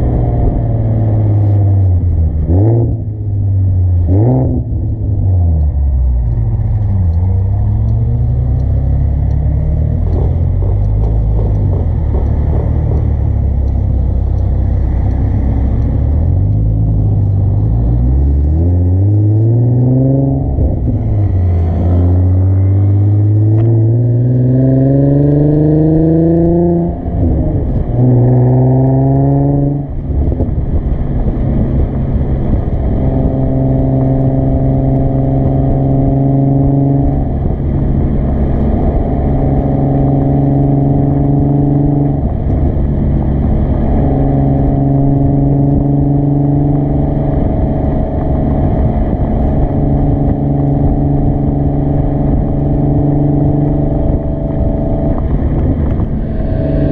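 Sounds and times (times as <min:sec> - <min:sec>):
car exhaust accelerating: 0:00.0 - 0:56.9.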